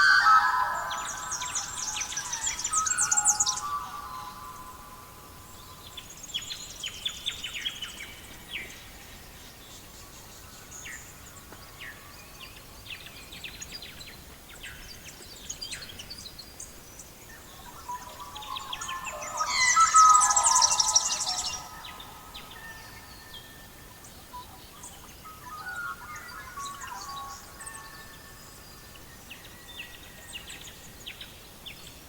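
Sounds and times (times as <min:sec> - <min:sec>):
faint steady hiss: 0:00.0 - 0:32.0
songbirds chirping: 0:00.0 - 0:32.0.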